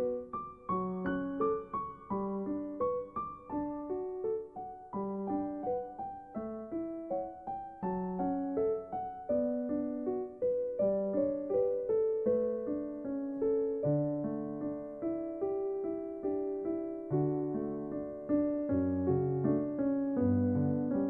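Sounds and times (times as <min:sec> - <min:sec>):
slow solo piano melody: 0:00.0 - 0:21.0.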